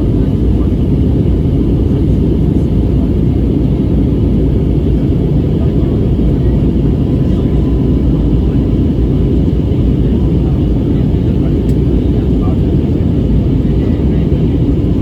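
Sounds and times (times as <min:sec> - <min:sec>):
airliner engines and airflow rumble: 0:00.0 - 0:15.0.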